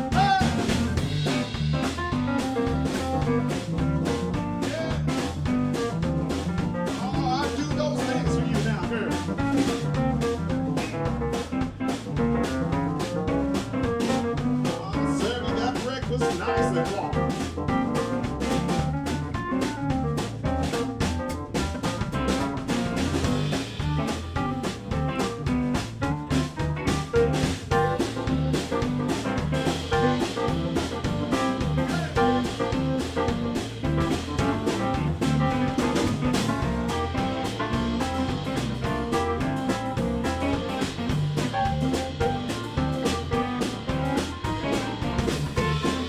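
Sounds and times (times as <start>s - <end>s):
bass: 0.0s - 46.0s
drum kit: 0.0s - 46.0s
guitar: 0.0s - 46.0s.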